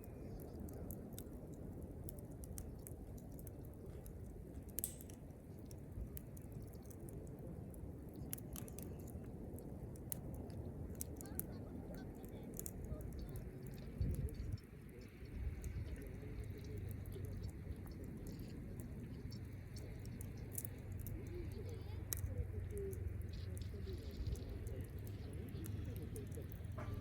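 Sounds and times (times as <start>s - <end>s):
campfire crackling and popping: 0.0s - 27.0s
low steady rumble: 0.0s - 27.0s.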